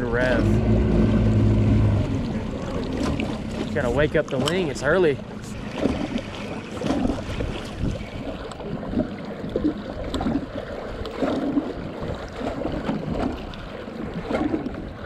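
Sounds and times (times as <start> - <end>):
water slapping against boat hull: 0.0 - 15.0.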